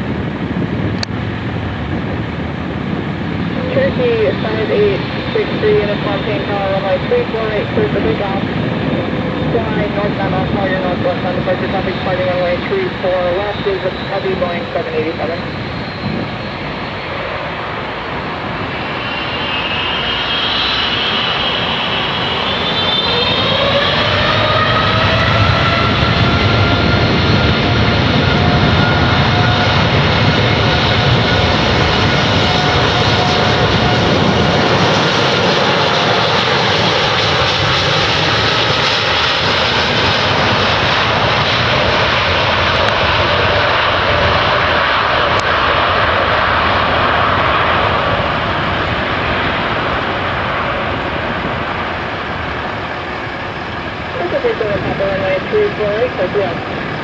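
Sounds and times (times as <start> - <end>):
jet engines spooling up: 0.0 - 57.0
loud jet rush with whine: 0.0 - 57.0.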